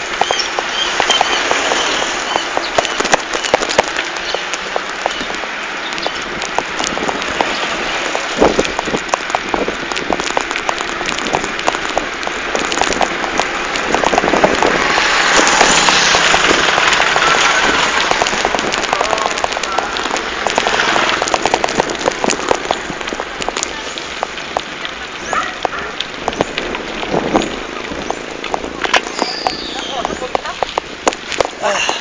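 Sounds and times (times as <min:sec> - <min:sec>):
bike rolling on paved road: 0:00.0 - 0:32.0.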